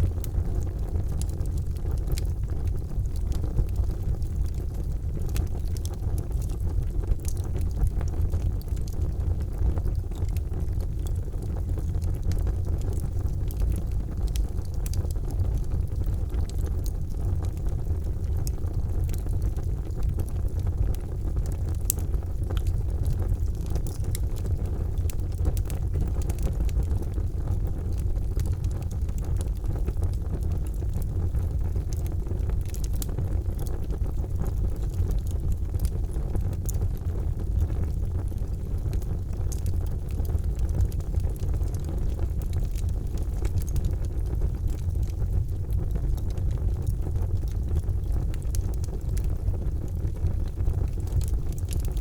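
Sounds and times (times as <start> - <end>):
fire crackling and popping: 0.0 - 52.0
fire rumbling: 0.0 - 52.0.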